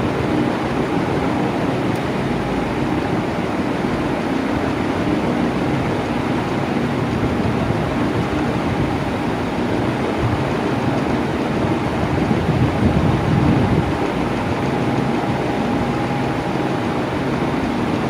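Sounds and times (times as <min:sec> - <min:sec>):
electric fan air rushing: 0:00.0 - 0:18.0
low motor hum: 0:00.0 - 0:18.0.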